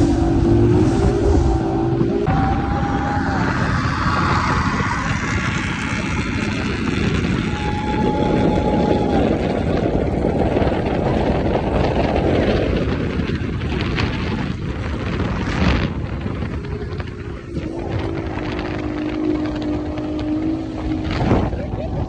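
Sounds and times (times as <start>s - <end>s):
airboat engine and propeller: 0.0s - 22.0s
rushing wind: 0.0s - 22.0s.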